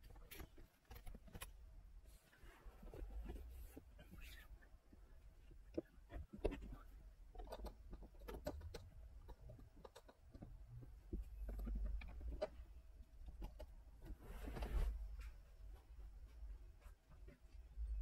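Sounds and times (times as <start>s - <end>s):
small handling clicks and rubs: 0.0s - 18.0s.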